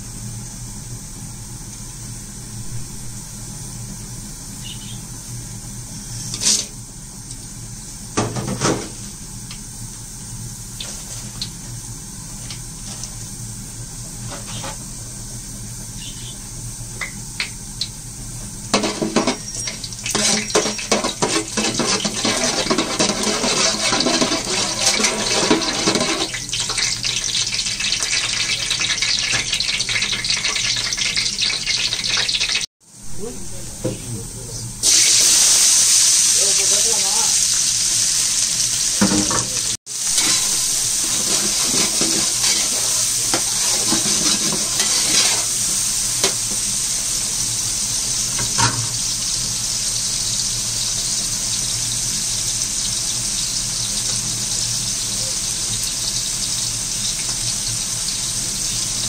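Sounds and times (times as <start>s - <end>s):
spices sizzling in hot oil: 0.0s - 59.0s.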